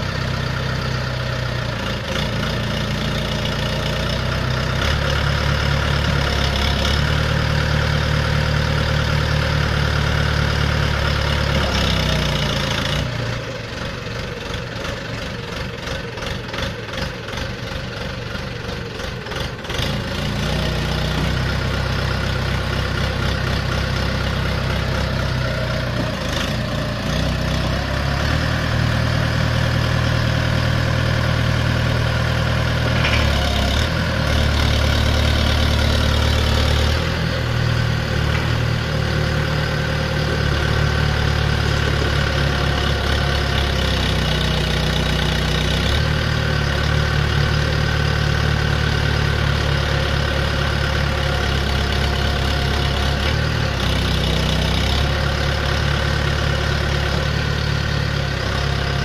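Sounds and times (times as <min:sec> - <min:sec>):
backhoe diesel engine running: 0:00.0 - 0:59.0.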